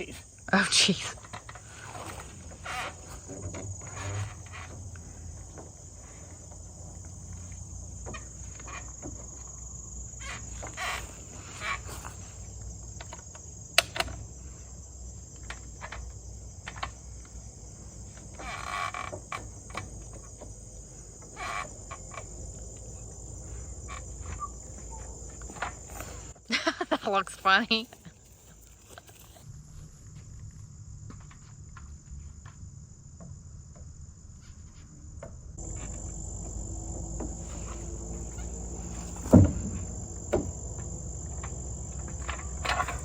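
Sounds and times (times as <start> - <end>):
crickets and insects chirring: 0.0 - 43.0.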